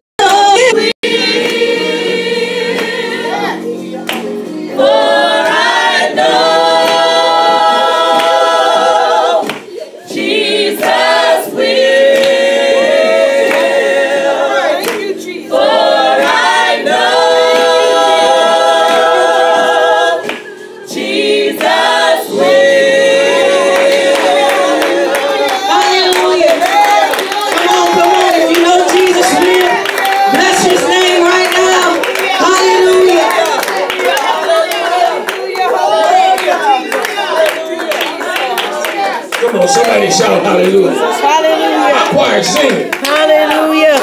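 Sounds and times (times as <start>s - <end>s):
women's choir singing gospel: 0.2s - 44.0s.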